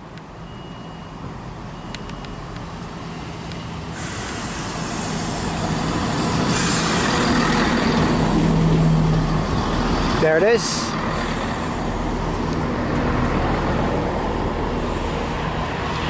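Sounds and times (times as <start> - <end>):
diesel train engine hum: 0.0 - 16.0
train rushing rumble: 2.4 - 16.0.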